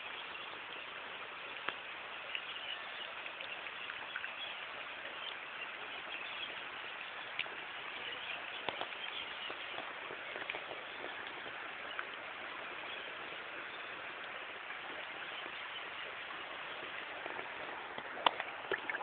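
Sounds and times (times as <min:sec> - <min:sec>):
raindrops tapping a surface: 0:00.0 - 0:19.0
steady rain: 0:00.0 - 0:19.0.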